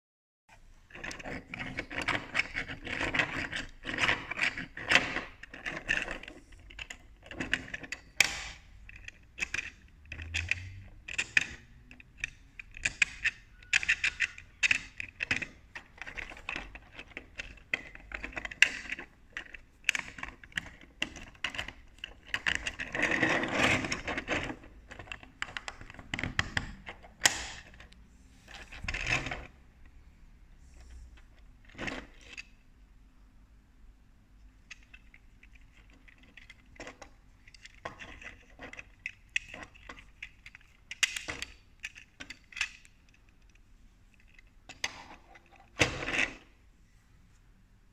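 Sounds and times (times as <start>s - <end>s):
plastic toy parts clicking: 0.9s - 29.9s, 31.6s - 32.6s, 34.4s - 46.5s.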